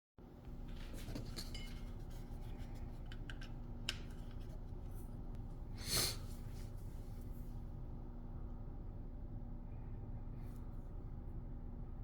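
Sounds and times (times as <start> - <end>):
faint steady hum: 0.2 - 12.0.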